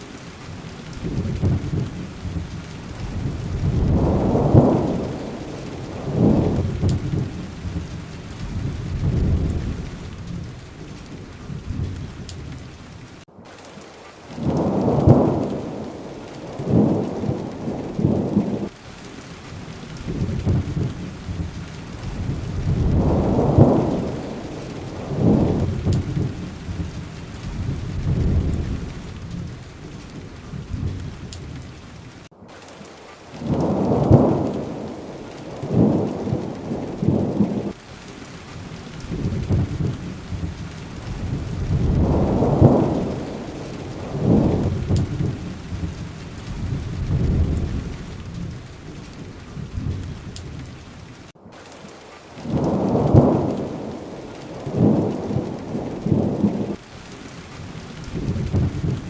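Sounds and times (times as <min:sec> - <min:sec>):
steady rain falling: 0:00.0 - 0:59.0
thunder rumbling: 0:00.0 - 0:59.0.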